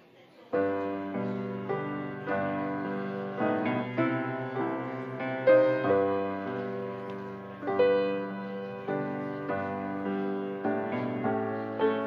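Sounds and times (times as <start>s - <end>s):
piano playing gentle chords: 0.6s - 12.0s.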